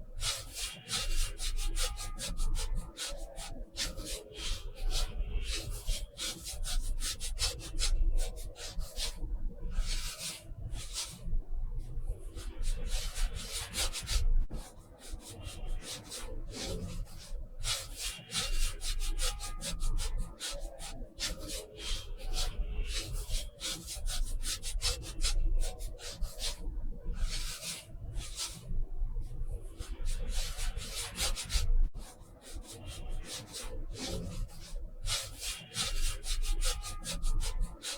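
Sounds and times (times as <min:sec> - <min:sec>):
art tool rubbing on paper: 0:00.1 - 0:11.3, 0:12.1 - 0:37.9.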